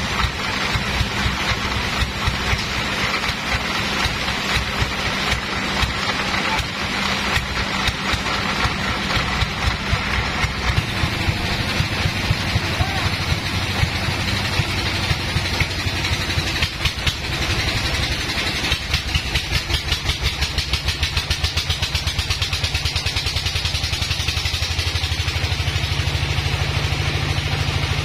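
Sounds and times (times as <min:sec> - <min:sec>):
band saw machinery running: 0:00.0 - 0:28.0.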